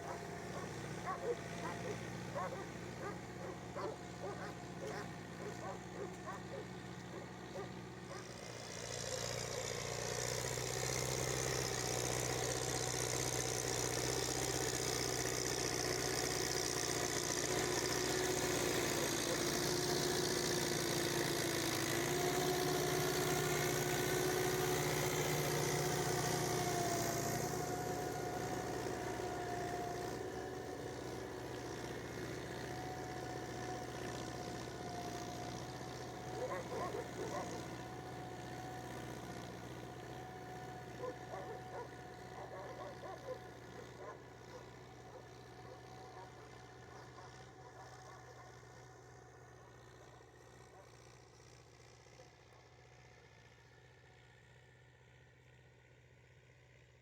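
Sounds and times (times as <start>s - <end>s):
tractor engine running: 0.0s - 55.6s.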